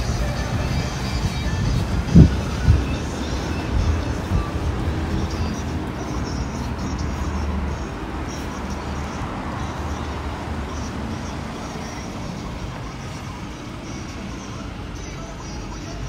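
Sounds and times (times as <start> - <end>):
cars passing: 0.0 - 16.0
low engine hum: 0.0 - 16.0
tyre and street noise: 0.0 - 16.0.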